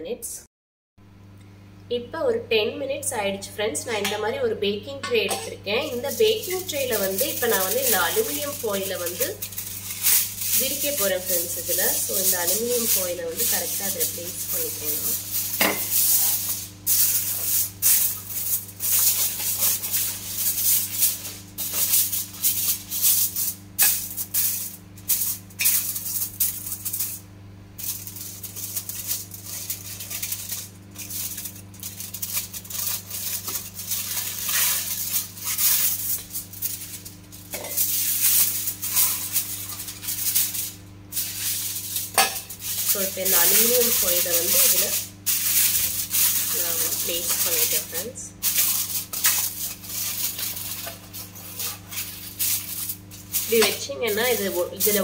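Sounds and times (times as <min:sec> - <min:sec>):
steady low hum: 0:00.1 - 0:55.0
aluminium foil crinkling: 0:05.7 - 0:55.0.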